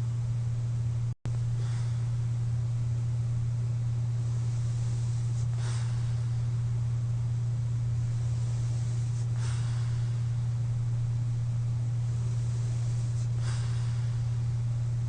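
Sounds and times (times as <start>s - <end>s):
steady low hum: 0.0s - 15.0s
airy breathing: 1.3s - 2.8s, 3.7s - 15.0s.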